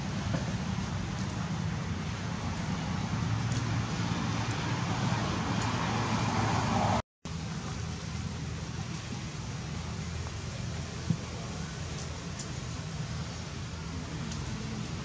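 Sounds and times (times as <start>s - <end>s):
outdoor rumble with hiss: 0.0s - 15.0s.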